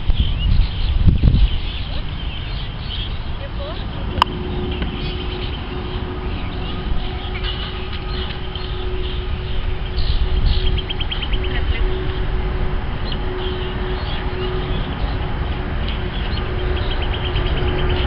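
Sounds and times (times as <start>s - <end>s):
jet engines rumbling overhead: 0.0s - 18.0s
small birds chirping: 0.0s - 18.0s
steady hum: 1.2s - 18.0s.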